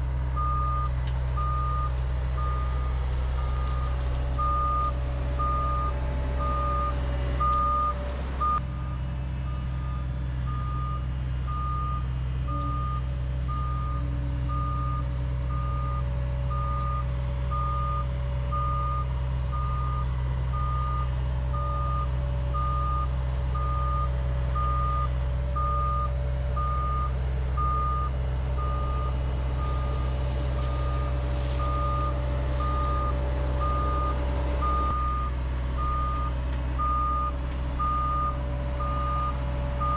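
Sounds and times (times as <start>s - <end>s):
diesel engine drone: 0.0s - 39.9s
backup alarm beeping: 0.4s - 39.9s.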